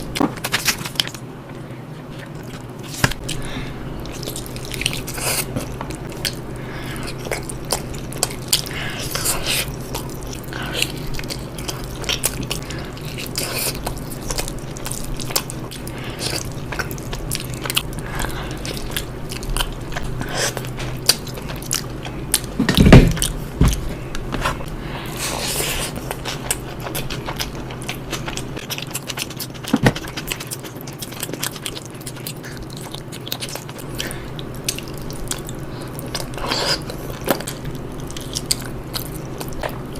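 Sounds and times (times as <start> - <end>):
close chewing and crunching: 2.0 - 39.9.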